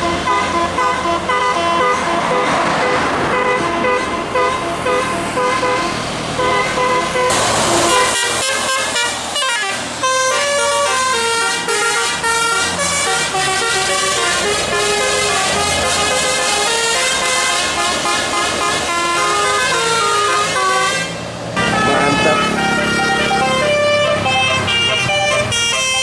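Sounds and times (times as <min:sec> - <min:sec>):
bus engine rumble: 0:00.0 - 0:26.0
bus musical air horn: 0:00.0 - 0:26.0.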